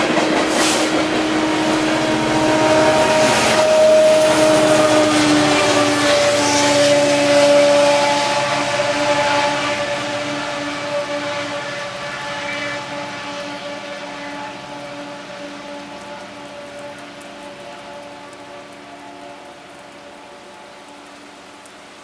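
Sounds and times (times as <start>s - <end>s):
diesel locomotive engines droning: 0.0s - 22.0s.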